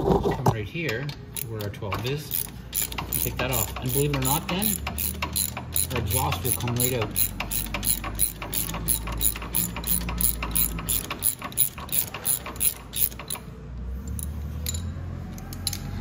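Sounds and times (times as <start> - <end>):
ratchet wrench clicking: 1.1 - 16.0.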